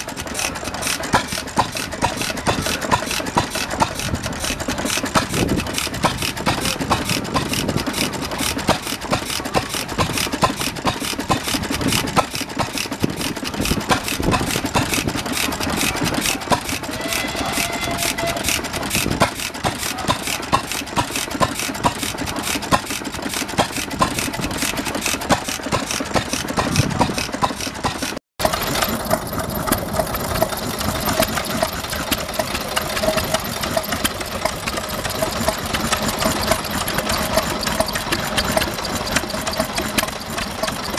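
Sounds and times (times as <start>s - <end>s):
engine running with steady tone: 0.0s - 40.9s
stationary engines knocking: 0.0s - 40.9s.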